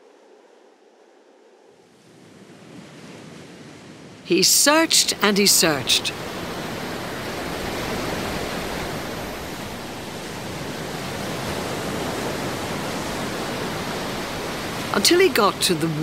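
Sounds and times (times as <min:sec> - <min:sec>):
wind: 0:00.0 - 0:16.0
surf: 0:02.1 - 0:16.0.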